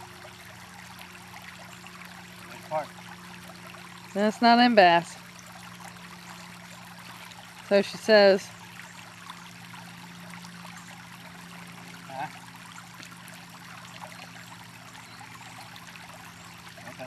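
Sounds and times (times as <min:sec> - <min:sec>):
creek water trickling: 0:00.0 - 0:17.0
low steady hum: 0:00.0 - 0:17.0.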